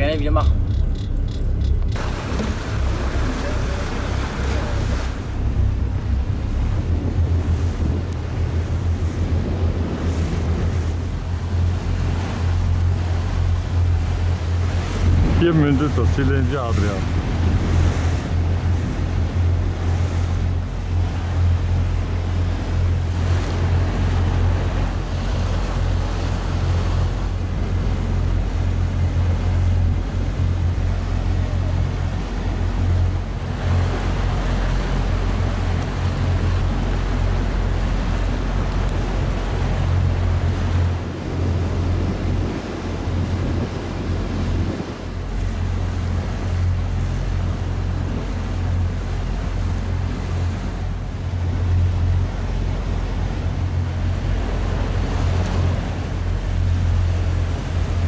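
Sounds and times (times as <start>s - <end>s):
motorboat engine drone: 0.0s - 58.0s
water rushing along hull: 0.0s - 58.0s
wind buffeting microphone: 0.0s - 58.0s.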